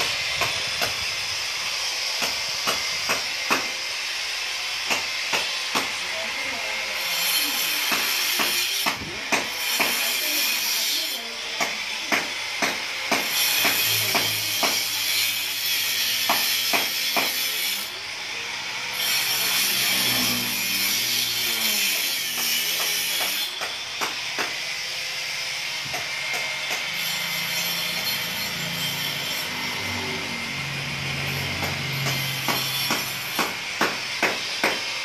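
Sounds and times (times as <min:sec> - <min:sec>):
power tool cutting concrete: 0:00.0 - 0:35.0.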